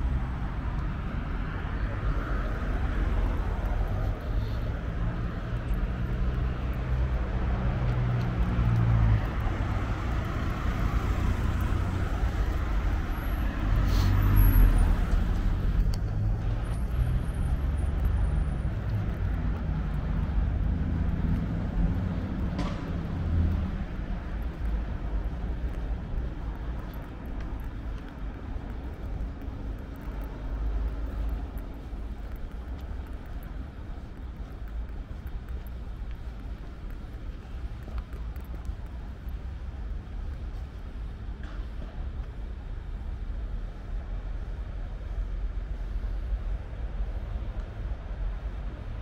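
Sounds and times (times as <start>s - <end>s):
cars passing: 0.0s - 49.0s.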